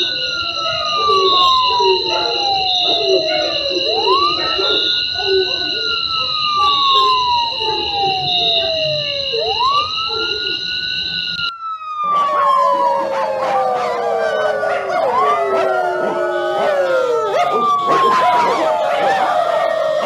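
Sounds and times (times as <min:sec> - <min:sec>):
dogs howling: 0:00.0 - 0:20.0
siren wailing: 0:00.0 - 0:20.0.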